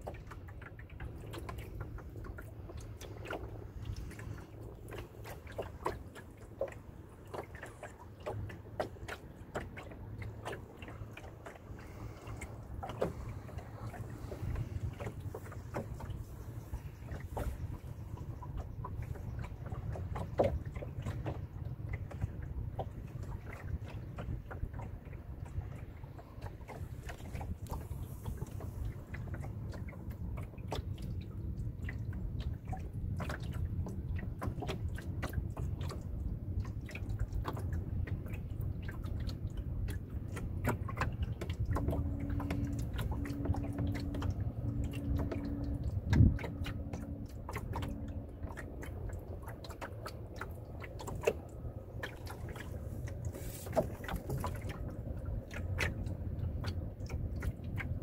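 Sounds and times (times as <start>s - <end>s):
water lapping against boat hull: 0.0s - 58.0s
wind rumble on microphone: 0.0s - 58.0s.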